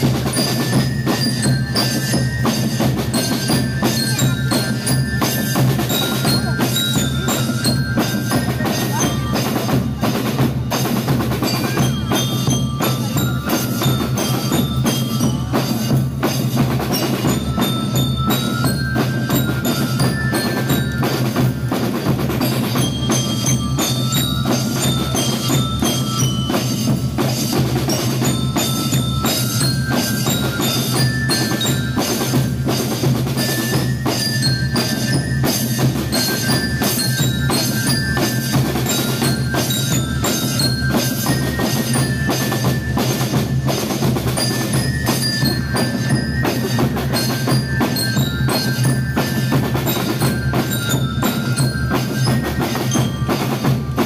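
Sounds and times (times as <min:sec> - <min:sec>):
bell lyre melody: 0:00.0 - 0:54.0
drums playing a march beat: 0:00.0 - 0:54.0.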